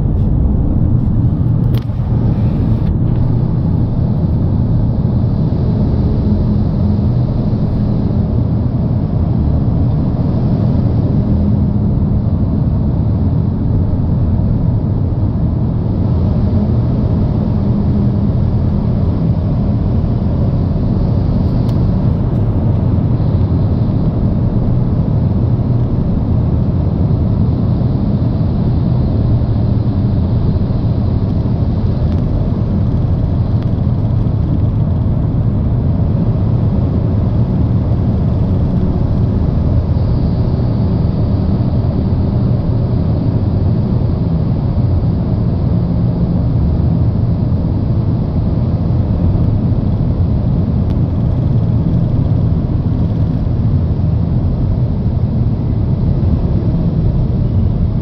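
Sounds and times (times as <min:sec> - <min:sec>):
car driving through tunnel: 0:00.0 - 0:58.0.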